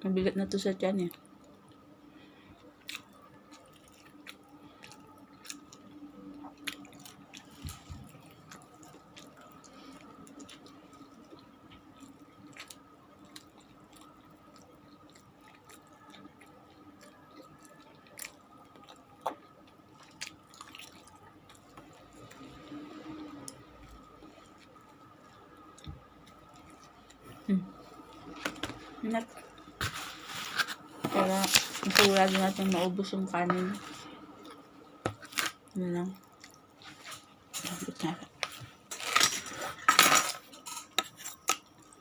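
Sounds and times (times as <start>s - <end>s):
faint steady hum: 0.0s - 42.0s
person chewing food: 1.3s - 32.9s, 33.7s - 42.0s.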